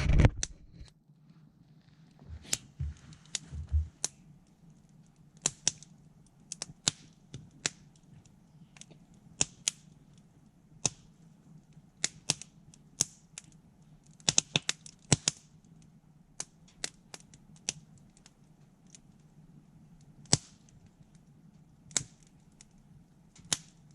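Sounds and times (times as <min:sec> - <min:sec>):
campfire crackling and popping: 0:02.0 - 0:23.9.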